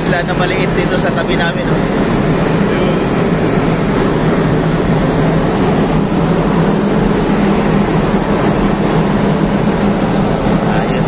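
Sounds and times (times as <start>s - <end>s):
diesel engine drone: 0.0s - 11.0s
steady rushing hiss: 0.0s - 11.0s.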